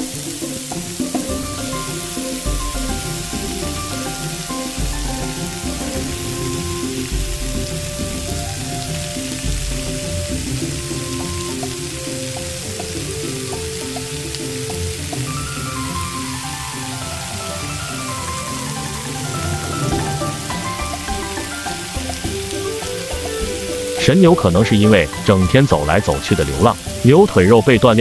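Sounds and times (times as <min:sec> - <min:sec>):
background music of held notes: 0:00.0 - 0:28.0
meat sizzling over charcoal: 0:00.0 - 0:28.0.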